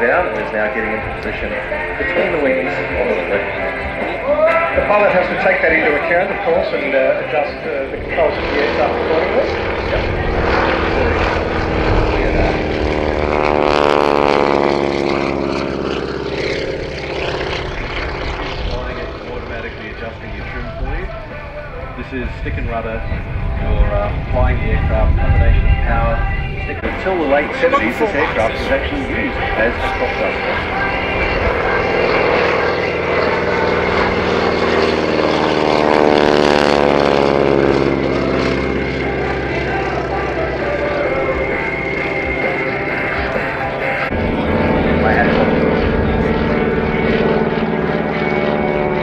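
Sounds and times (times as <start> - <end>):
biplane engine flying past: 0.0 - 49.0.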